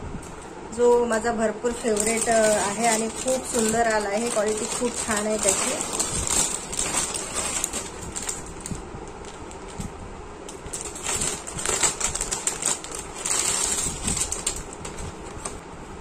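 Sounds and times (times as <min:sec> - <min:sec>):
plastic bag crinkling: 0:01.6 - 0:15.6.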